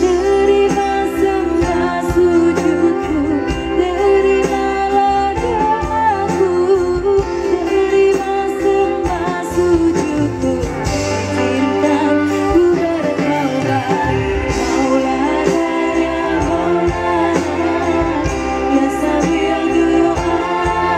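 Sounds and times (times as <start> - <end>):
live band with guitar: 0.0 - 20.9
woman singing: 0.0 - 20.9.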